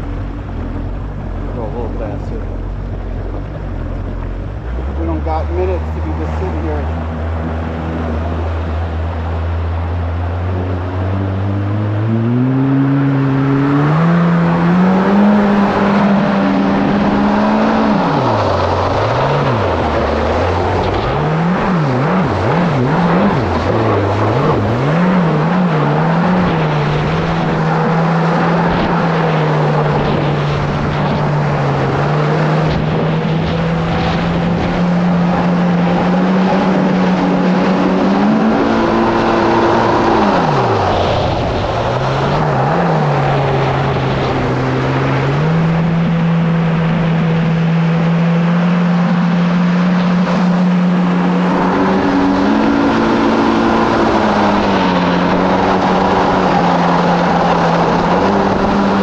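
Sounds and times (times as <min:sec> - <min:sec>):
jet ski engine running: 0:00.0 - 0:59.0
water and wind rushing: 0:00.0 - 0:59.0.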